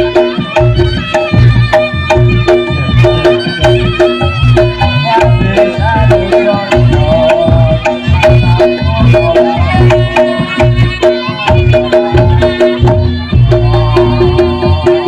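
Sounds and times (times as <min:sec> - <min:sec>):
fast drum beat: 0:00.0 - 0:15.0
tuned gongs pattern: 0:00.0 - 0:15.0
wavering reed-horn melody: 0:00.0 - 0:15.0.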